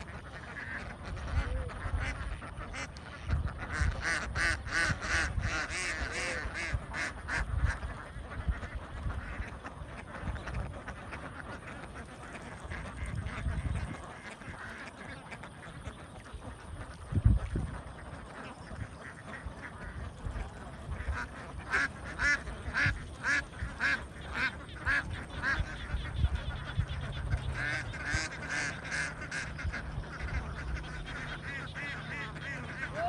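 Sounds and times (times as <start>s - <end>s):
ducks quacking: 0.0s - 33.0s.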